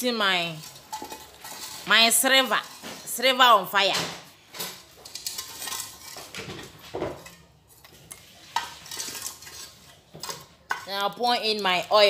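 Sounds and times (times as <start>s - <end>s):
metal pot knocking and scraping: 0.4s - 3.4s, 4.6s - 12.0s.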